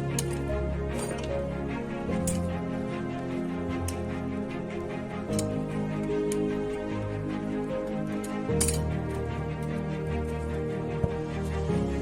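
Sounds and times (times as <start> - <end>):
sustained music notes: 0.0 - 12.0.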